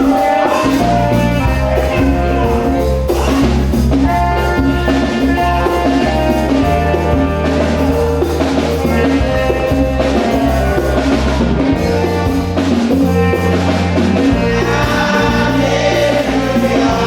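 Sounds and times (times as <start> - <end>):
church band music: 0.0 - 17.0
drum kit beat: 0.0 - 17.0.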